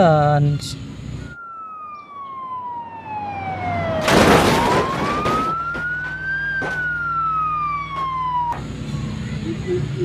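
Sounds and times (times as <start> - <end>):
toy electronic wailing siren: 1.2 - 10.0.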